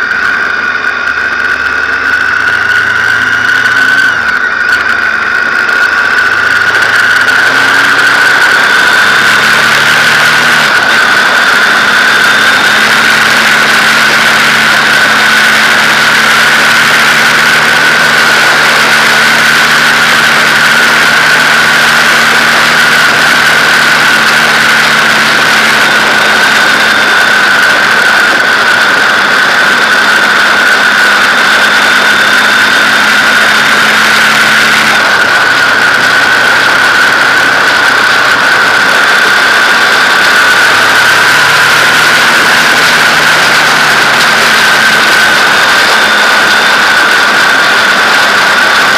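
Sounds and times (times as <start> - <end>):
constant high whine: 0.0 - 48.9
loud wind rush: 0.0 - 48.9
motorcycle engine at road speed: 0.0 - 48.9.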